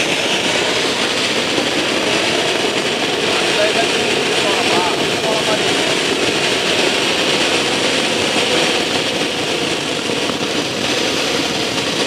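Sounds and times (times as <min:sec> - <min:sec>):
fountain firework hissing: 0:00.0 - 0:12.0.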